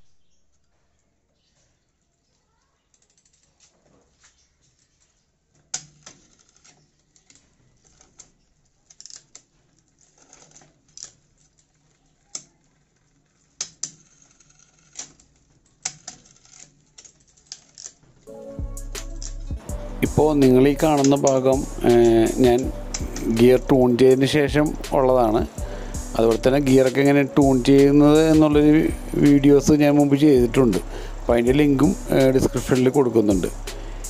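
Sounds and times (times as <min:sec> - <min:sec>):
bicycle chain ticking: 0:01.8 - 0:34.0.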